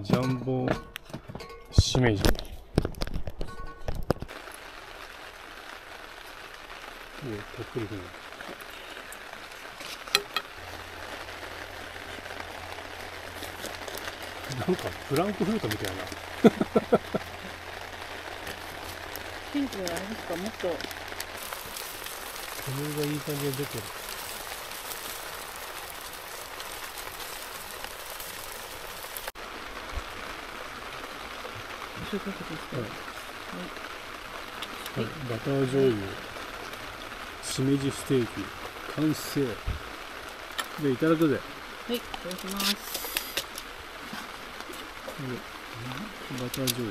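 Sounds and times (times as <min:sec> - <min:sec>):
mushrooms sizzling: 0:03.0 - 0:46.9.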